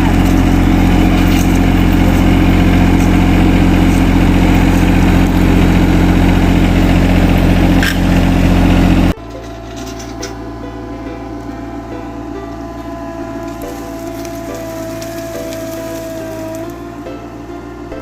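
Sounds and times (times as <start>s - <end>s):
motor humming loudly: 0.0s - 18.0s.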